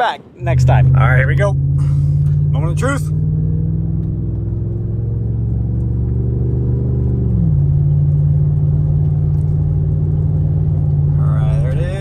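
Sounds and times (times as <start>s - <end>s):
pickup engine accelerating: 0.2s - 12.0s.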